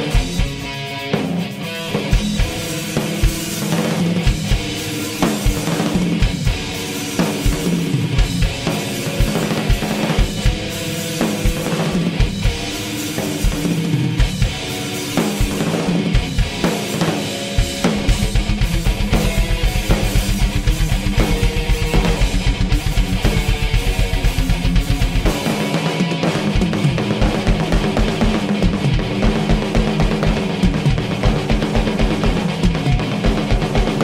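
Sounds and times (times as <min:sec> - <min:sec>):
fast bass drum strokes: 0:00.0 - 0:34.0
heavy metal band playing: 0:00.0 - 0:34.0.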